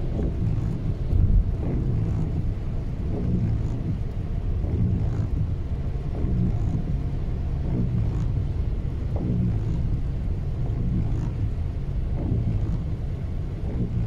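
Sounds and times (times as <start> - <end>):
car driving on wet highway: 0.0 - 14.0
windscreen wipers sweeping: 0.0 - 14.0.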